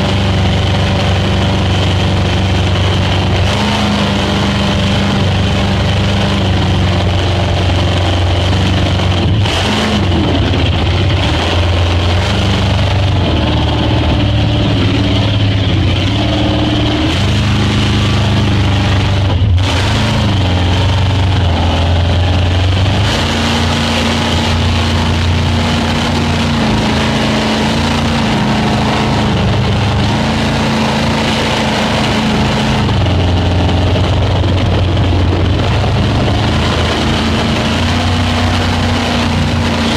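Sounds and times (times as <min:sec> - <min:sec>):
speedboat engine running: 0:00.0 - 0:39.9
steady rush of noise: 0:00.0 - 0:39.9.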